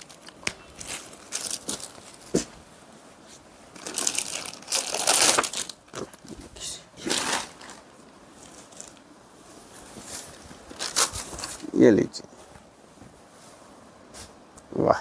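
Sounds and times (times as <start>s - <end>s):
fabric rustling and crinkling: 0.0s - 14.4s.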